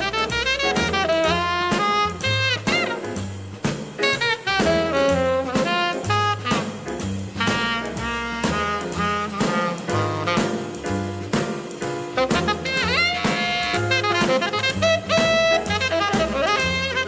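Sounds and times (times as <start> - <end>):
horn melody: 0.0 - 3.4, 4.0 - 11.3, 12.0 - 17.0
bass line: 0.0 - 17.0
steady drum beat: 0.0 - 17.0.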